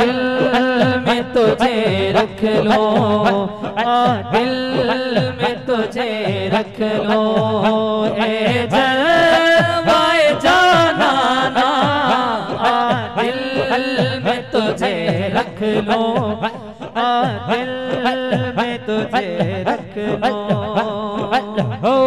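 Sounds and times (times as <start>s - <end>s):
low repeating beat: 0.0s - 22.0s
men singing through pa: 0.0s - 22.0s.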